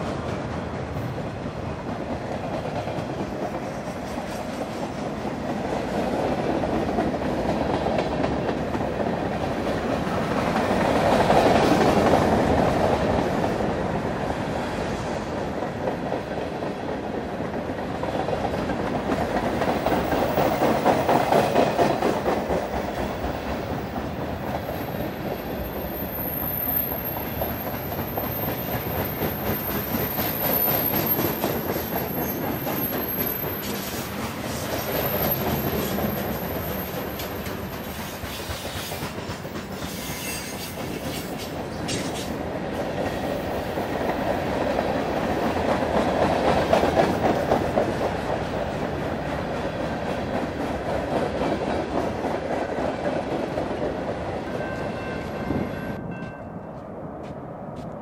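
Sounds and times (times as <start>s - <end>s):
train wheels rumbling and clicking: 0.0s - 54.9s.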